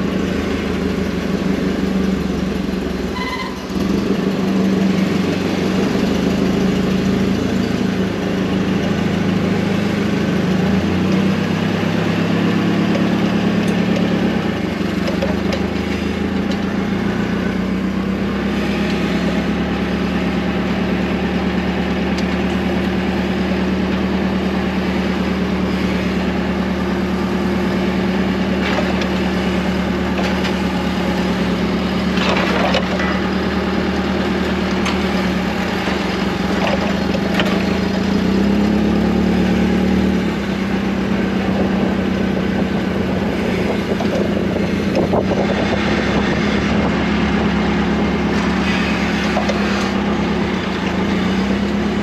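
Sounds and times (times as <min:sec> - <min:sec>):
heavy engine idling: 0:00.0 - 0:52.0.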